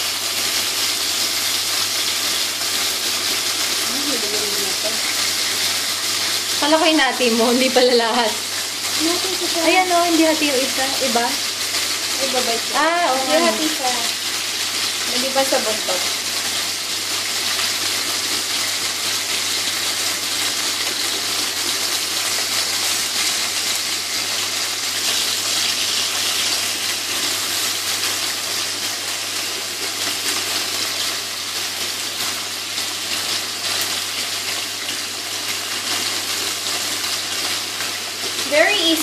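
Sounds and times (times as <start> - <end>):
chicken wings sizzling in oil: 0.0 - 39.0.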